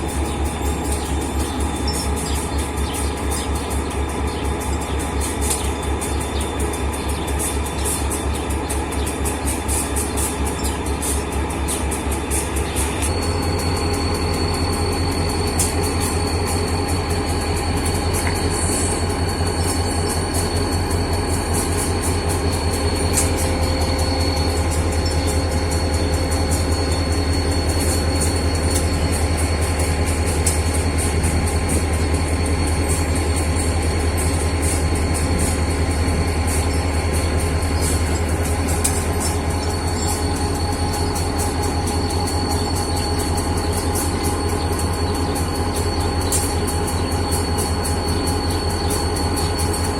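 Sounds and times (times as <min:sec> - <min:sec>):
diesel locomotive engine throbbing: 0:00.0 - 0:49.9
high steady whine: 0:00.0 - 0:49.9.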